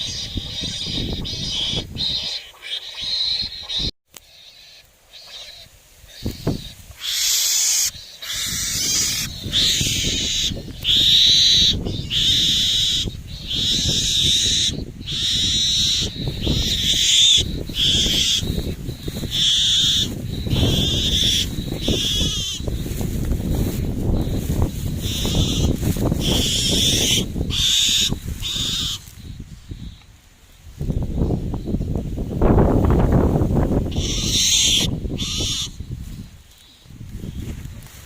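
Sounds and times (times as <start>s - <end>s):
high calls: 0.0s - 30.1s, 33.8s - 37.4s.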